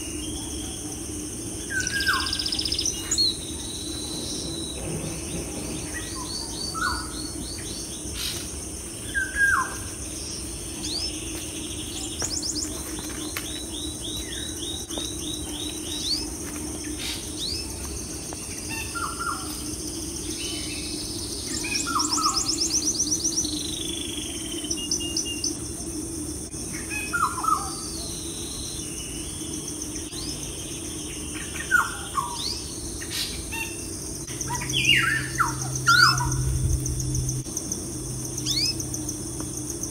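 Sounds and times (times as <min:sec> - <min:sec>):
birds chirping: 0:00.0 - 0:25.6, 0:26.7 - 0:39.2
steady low hum: 0:00.0 - 0:39.9.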